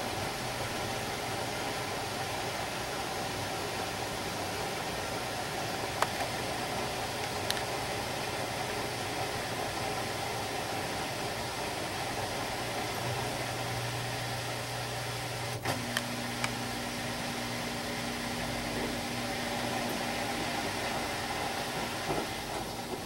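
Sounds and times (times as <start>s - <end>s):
washing machine drum whirring: 0.0s - 23.0s.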